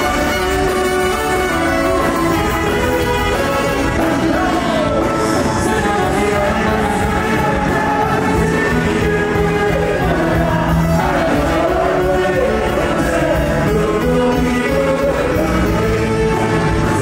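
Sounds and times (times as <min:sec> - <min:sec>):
live band with saxophones: 0:00.0 - 0:17.0.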